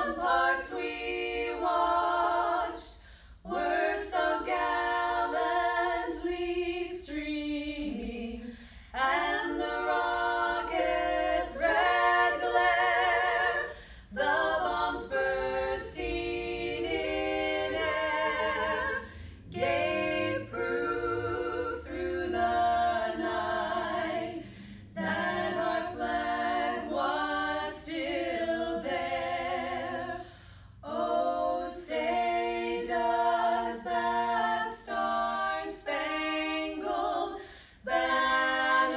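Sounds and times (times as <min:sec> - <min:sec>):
women singing a cappella: 0:00.0 - 0:38.9.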